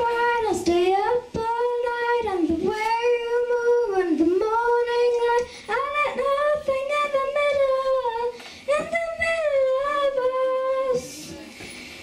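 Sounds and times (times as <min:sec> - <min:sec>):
girl singing into a microphone: 0:00.0 - 0:11.8.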